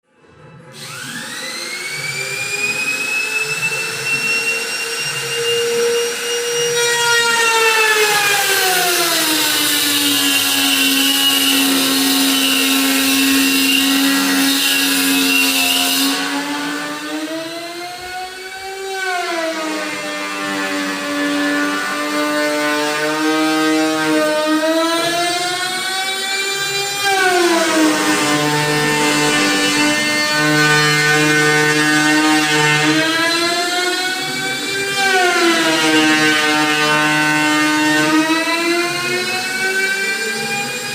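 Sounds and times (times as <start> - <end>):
power tool cutting wood: 0.7 - 40.9.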